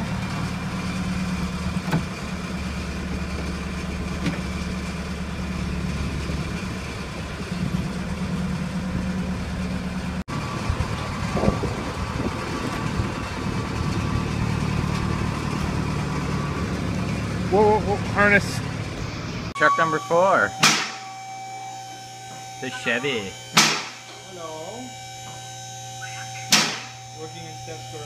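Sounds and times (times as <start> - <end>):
loader engine idling: 0.0 - 28.0.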